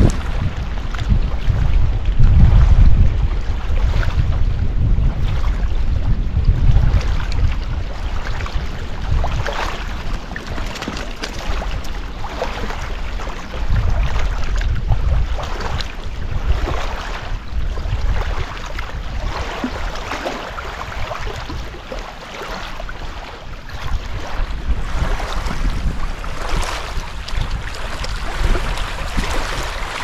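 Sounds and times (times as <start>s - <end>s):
small waves lapping on shore: 0.0s - 30.0s
wind rumbling on microphone: 0.0s - 30.0s.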